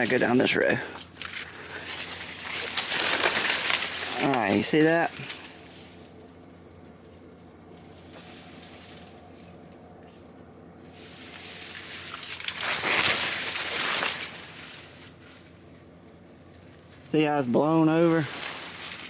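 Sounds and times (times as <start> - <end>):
corn leaves rustling: 0.0 - 15.7, 16.6 - 19.0
faint low hum: 0.0 - 19.0.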